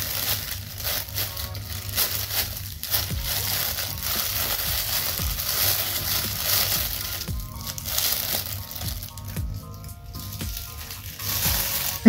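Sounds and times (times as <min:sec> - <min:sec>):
plastic glove crinkling: 0:00.0 - 0:12.0.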